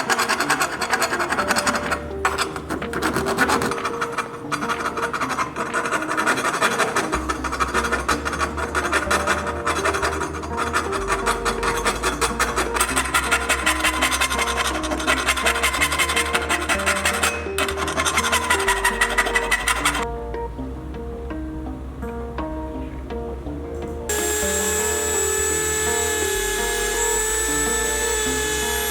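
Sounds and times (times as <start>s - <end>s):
rasping sanding strokes: 0.0s - 20.1s, 24.1s - 28.9s
background music with melody: 0.0s - 28.9s.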